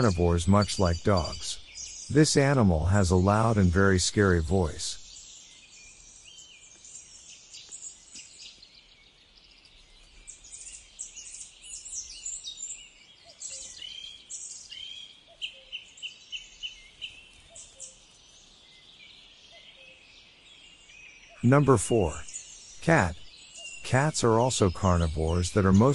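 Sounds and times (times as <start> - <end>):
faint outdoor hiss: 0.0 - 25.9
songbirds chirping: 0.0 - 25.9.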